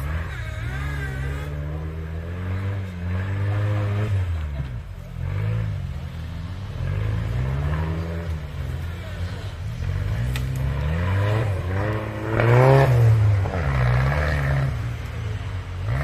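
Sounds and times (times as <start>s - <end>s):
vehicle engine revving: 0.0s - 16.0s.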